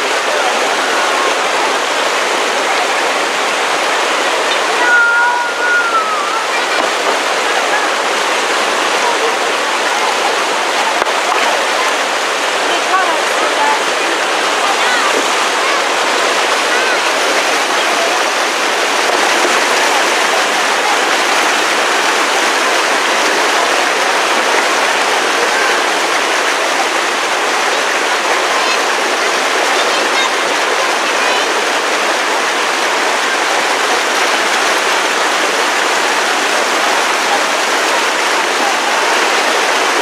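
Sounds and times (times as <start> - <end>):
river rapids rushing: 0.0 - 40.0.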